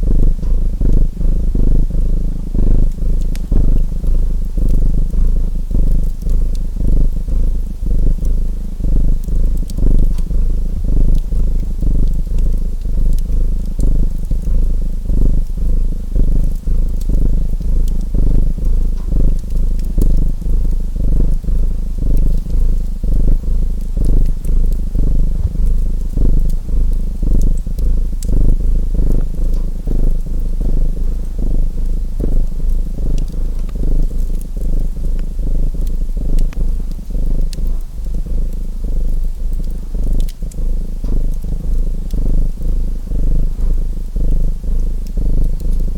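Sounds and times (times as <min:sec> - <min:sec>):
cat purring: 0:00.0 - 0:45.9
faint wood fire crackles: 0:00.0 - 0:45.9.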